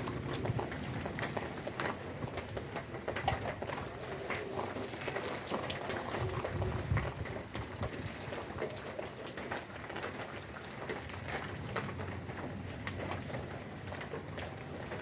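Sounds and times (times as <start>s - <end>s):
drips and splashes: 0.0s - 15.0s
heavy rain falling: 0.0s - 15.0s.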